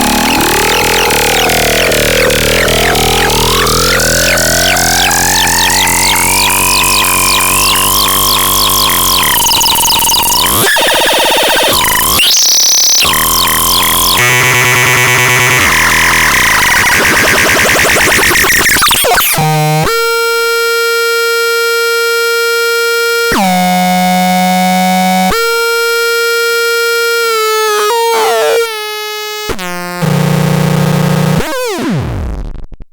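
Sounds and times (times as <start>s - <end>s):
buzzy synthesizer drone: 0.0s - 32.5s
glitchy synthesizer tones and noise: 0.0s - 32.8s.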